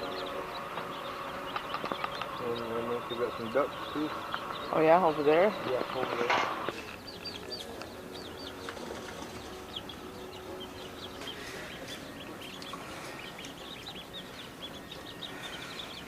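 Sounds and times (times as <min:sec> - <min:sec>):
baby chicks peeping: 0:00.0 - 0:16.0.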